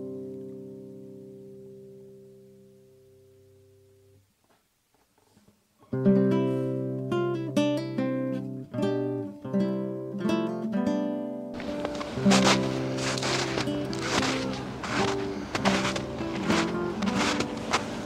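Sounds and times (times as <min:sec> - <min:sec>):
acoustic guitar music: 0:00.0 - 0:04.2, 0:05.8 - 0:18.0.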